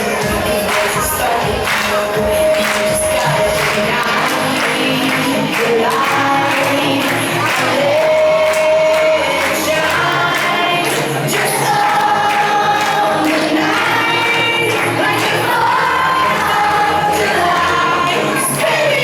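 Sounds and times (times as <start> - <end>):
group of voices singing: 0.0 - 19.0
steady music beat: 0.0 - 19.0.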